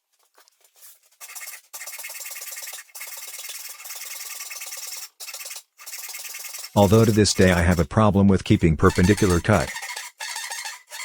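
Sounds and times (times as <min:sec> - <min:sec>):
hand saw rasping through wood: 0:01.1 - 0:07.9, 0:08.9 - 0:11.0.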